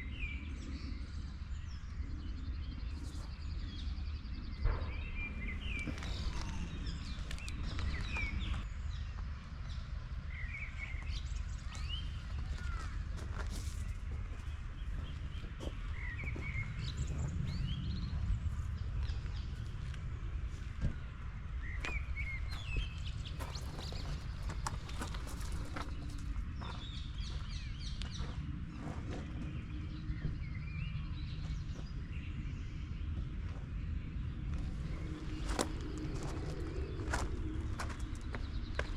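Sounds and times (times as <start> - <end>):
birds chirping: 0.0 - 38.9
low outdoor rumble: 0.0 - 38.9.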